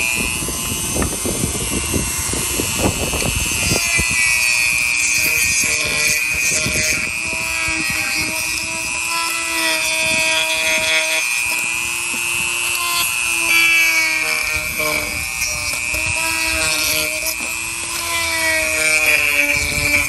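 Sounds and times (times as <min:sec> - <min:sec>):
rotary tool motor whine: 0:00.0 - 0:20.0
stone bit hissing on wood: 0:00.0 - 0:20.0.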